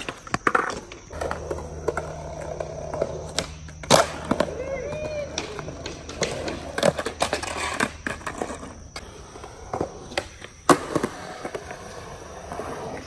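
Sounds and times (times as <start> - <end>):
skateboard clacks: 0.0 - 13.0
skateboard wheels rolling: 0.0 - 13.0.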